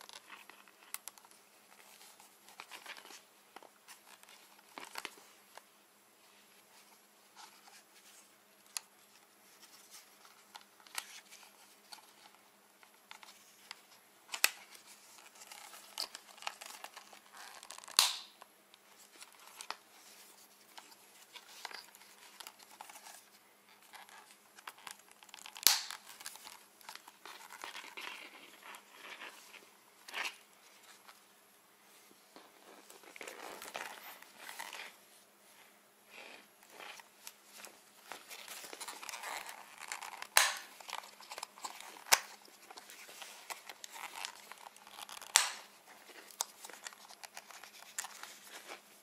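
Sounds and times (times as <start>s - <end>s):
plastic frame rustling and creaking: 0.0s - 5.6s, 6.5s - 18.0s, 18.8s - 31.2s, 31.9s - 35.2s, 36.1s - 49.0s.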